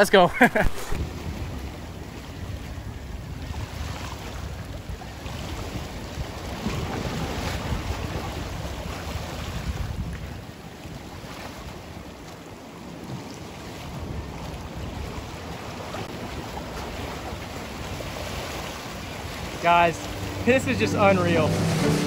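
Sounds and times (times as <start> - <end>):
waves splashing against rocks: 0.0 - 22.0
wind rumbling on microphone: 0.8 - 12.3, 13.0 - 20.5.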